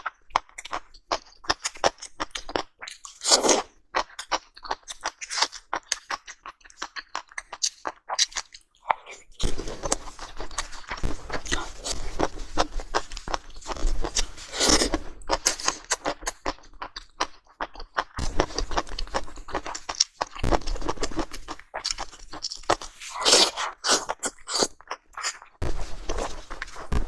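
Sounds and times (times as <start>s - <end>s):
steak being chewed: 0.0s - 27.0s.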